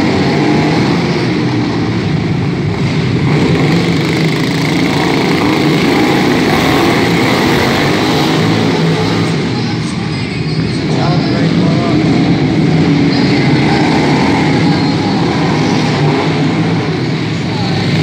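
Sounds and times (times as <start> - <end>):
lawn mower engines racing: 0.0 - 18.0.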